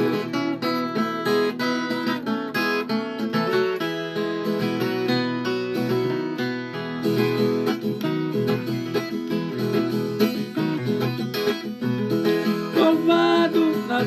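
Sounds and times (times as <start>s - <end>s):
folk guitar plucked and strummed: 0.0s - 14.0s.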